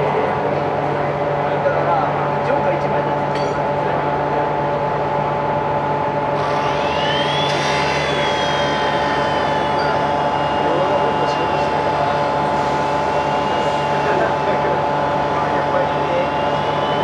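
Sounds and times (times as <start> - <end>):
electrical hum: 0.0 - 17.0
high motor whine: 0.0 - 17.0
train rolling noise: 0.0 - 17.0.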